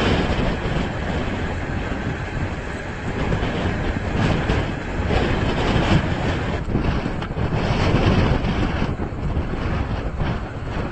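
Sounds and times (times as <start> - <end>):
strong wind on microphone: 0.0 - 10.9.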